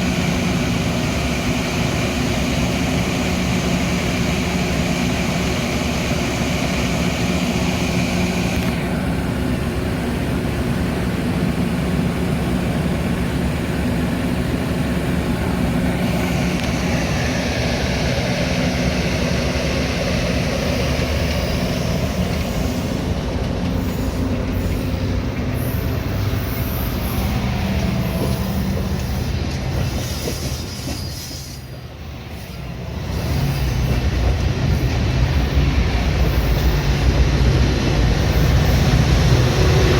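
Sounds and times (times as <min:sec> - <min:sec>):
train rumbling: 0:00.0 - 0:39.9
train wheel noise: 0:00.0 - 0:39.9.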